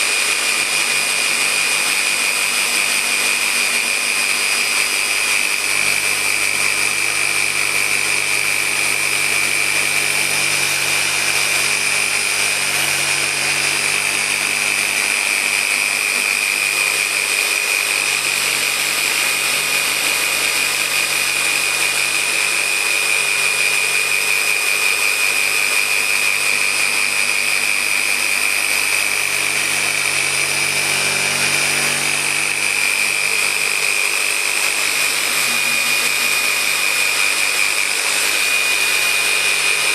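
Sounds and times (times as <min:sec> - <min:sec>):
electric polisher whining: 0:00.0 - 0:39.9.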